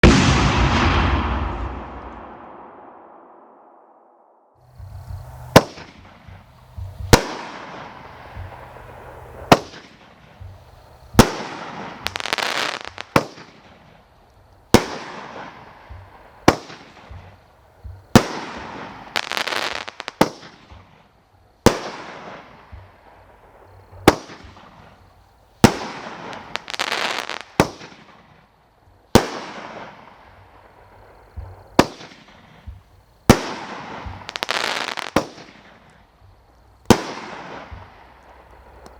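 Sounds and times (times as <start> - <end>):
firework crackling: 0.0 - 3.6, 4.6 - 38.9
firework bangs: 0.0 - 3.9, 4.7 - 14.0, 14.7 - 21.0, 21.6 - 24.9, 25.6 - 28.2, 29.1 - 35.8, 36.9 - 38.9.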